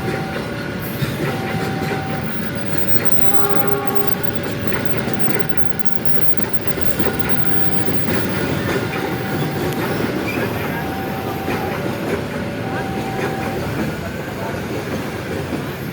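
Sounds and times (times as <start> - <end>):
train wheels rumbling: 0.0 - 15.9.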